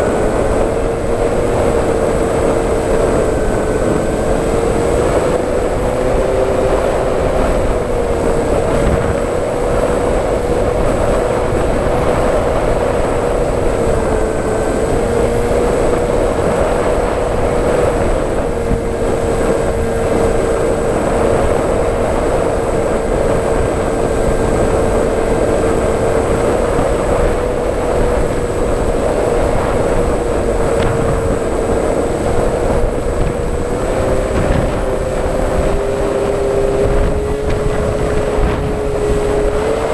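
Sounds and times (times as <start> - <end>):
model aircraft motor whine: 0.0 - 39.9
wind rush on microphone: 0.0 - 39.9.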